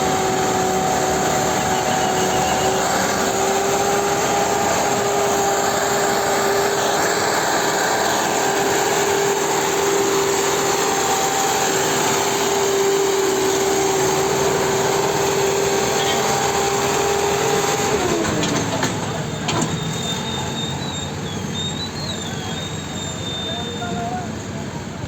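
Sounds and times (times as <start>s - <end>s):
constant whine: 0.0s - 25.0s
tractor diesel engine under load: 0.0s - 25.0s.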